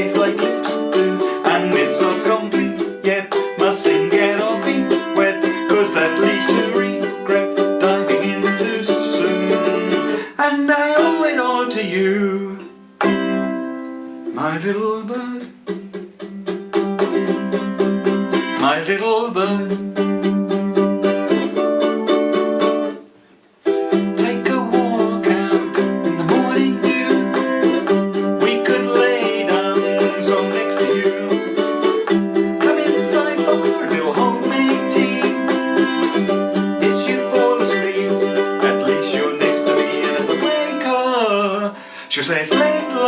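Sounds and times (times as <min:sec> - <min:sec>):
ukulele strumming and picking: 0:00.0 - 0:43.0.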